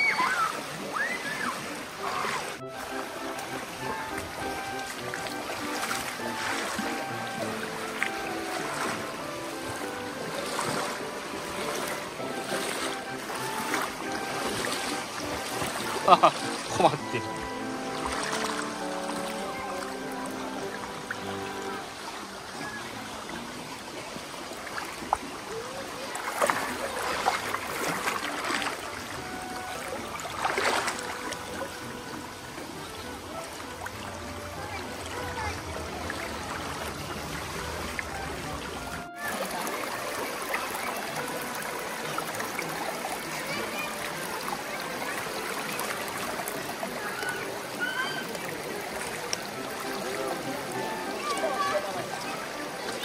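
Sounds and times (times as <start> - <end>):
stream running over stones: 0.0 - 53.0.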